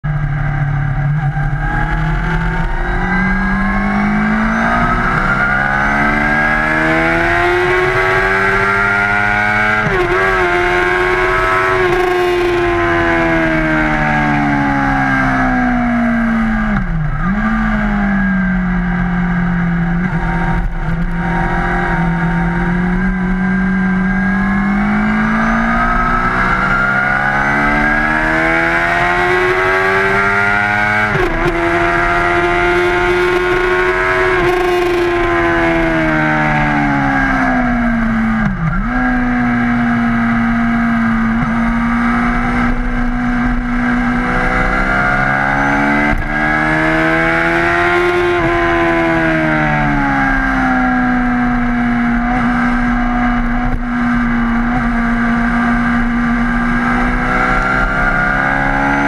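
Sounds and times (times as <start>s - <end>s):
motorcycle engine revving through gears: 0.0s - 59.0s.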